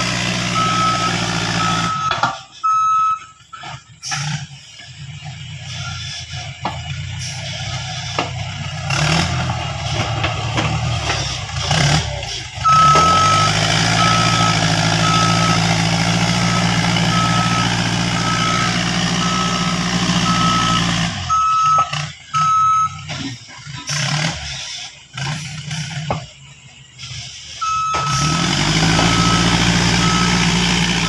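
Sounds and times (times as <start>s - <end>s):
diesel engine running: 0.0s - 31.0s
reversing alarm beeping: 0.4s - 4.9s, 5.6s - 23.9s, 27.5s - 31.0s.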